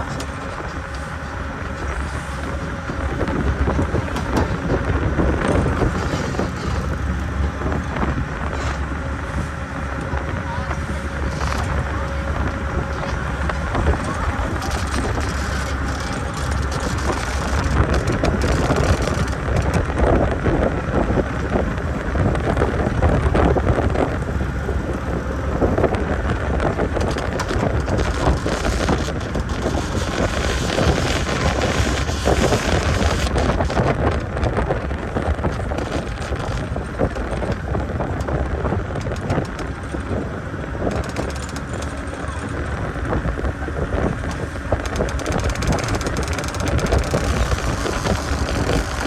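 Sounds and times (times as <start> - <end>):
speedboat motor running: 0.0 - 49.0
wind buffeting microphone: 0.0 - 49.0.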